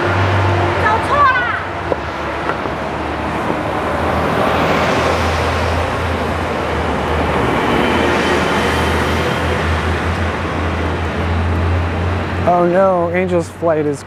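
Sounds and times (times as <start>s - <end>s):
buses driving past: 0.0s - 14.0s
tyre and road noise: 0.0s - 14.0s.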